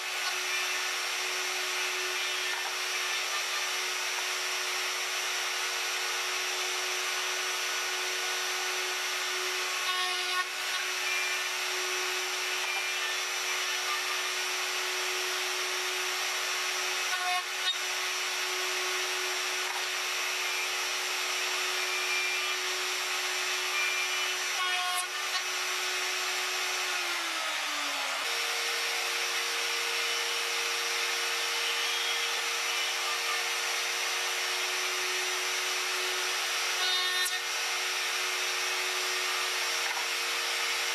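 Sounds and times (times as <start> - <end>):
router whining: 0.0 - 40.9.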